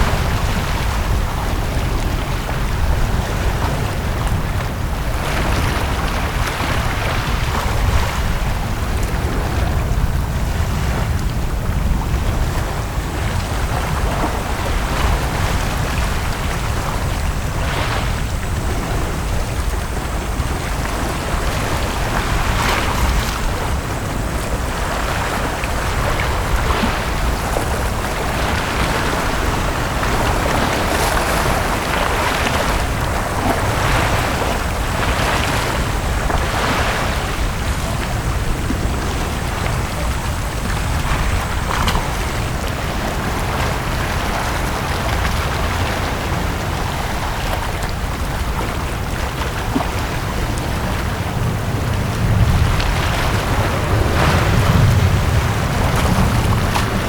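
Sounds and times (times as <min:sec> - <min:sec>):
sea waves washing onto beach: 0:00.0 - 0:57.0
wind rumble on microphone: 0:00.0 - 0:57.0.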